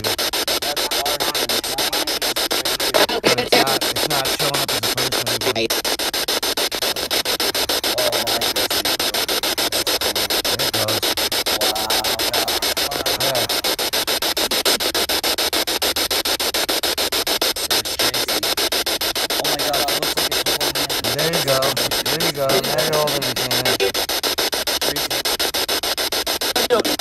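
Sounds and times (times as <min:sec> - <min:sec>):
pulsing radio static: 0:00.0 - 0:27.0
voice-like radio fragments: 0:00.0 - 0:27.0.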